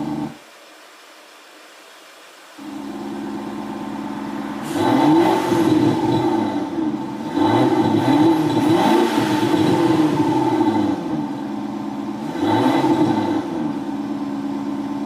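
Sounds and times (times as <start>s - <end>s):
car engine idling: 0.0s - 0.4s, 2.6s - 15.0s
car engine revving: 0.0s - 0.4s, 2.6s - 15.0s.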